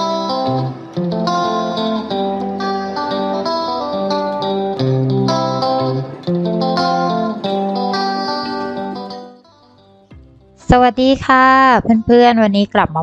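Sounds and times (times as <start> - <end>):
plucked guitar tune: 0.0 - 12.5.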